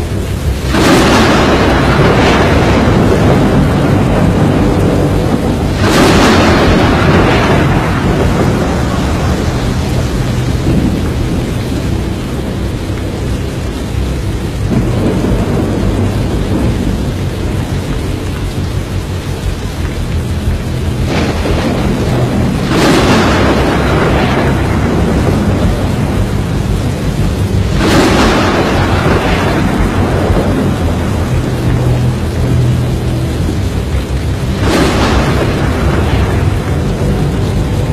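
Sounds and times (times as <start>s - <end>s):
loud thunderclaps: 0.0s - 37.9s
rumble of wind and rain: 0.0s - 37.9s.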